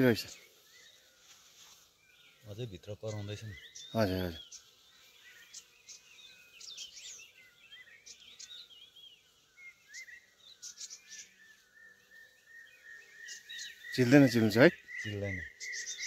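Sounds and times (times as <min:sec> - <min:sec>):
faint birdsong chirps and whistles: 0:00.0 - 0:16.0
high bird trill: 0:02.1 - 0:16.0.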